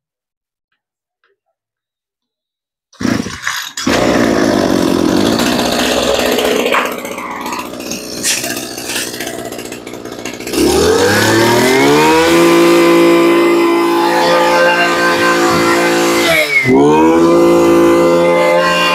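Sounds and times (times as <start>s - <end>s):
brush cutter engine revving: 3.0s - 18.9s.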